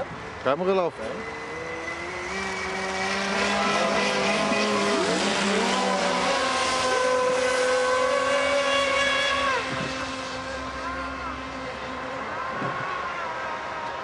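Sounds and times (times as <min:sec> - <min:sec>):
model boat motors whining: 0:00.8 - 0:14.0.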